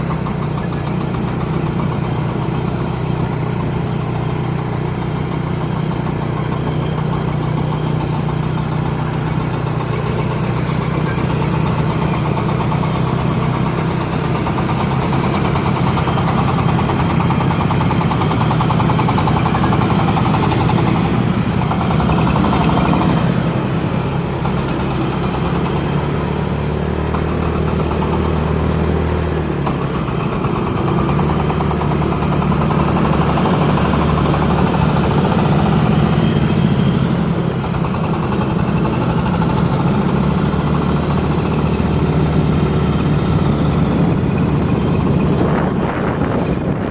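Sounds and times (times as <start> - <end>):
machine engine running: 0.0 - 46.9.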